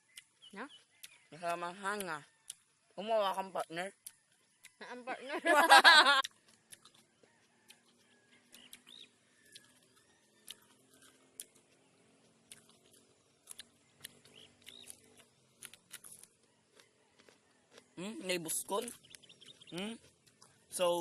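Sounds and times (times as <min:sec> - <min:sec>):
bird chirps: 0:00.0 - 0:03.0, 0:06.3 - 0:21.0.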